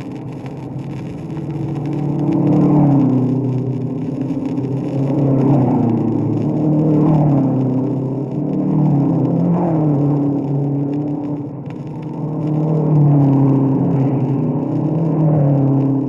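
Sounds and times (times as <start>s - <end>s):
racing car engines: 0.1s - 16.0s.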